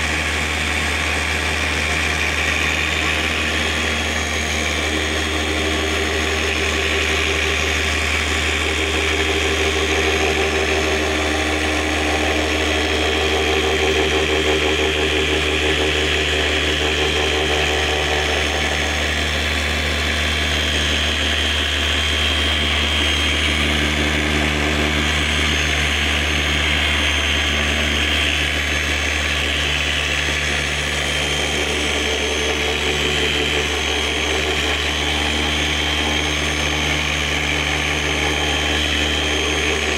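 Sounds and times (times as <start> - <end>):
electric polisher whining: 0.0 - 39.9.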